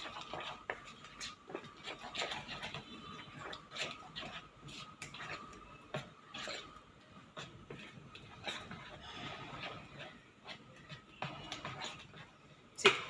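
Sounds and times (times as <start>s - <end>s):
spoon stirring batter in bowl: 0.0s - 13.0s.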